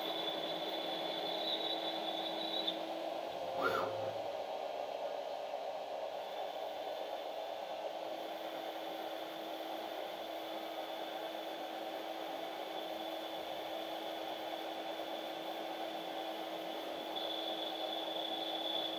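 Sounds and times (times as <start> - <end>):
lathe cutting hiss: 0.0 - 4.4, 8.0 - 18.9
faint steady hum: 0.0 - 18.9.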